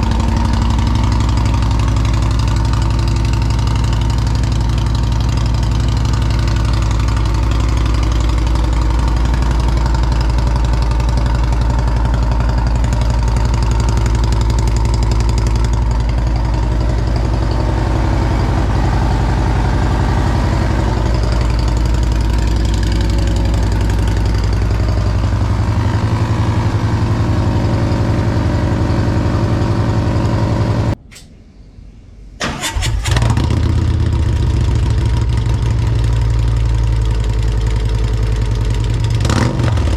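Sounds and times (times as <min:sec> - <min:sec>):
motorcycle engine idling: 0:00.0 - 0:31.0, 0:32.4 - 0:39.9.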